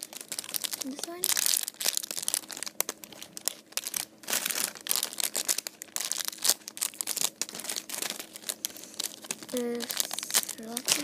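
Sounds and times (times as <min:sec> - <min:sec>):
squishy toys crinkling: 0:00.0 - 0:11.0.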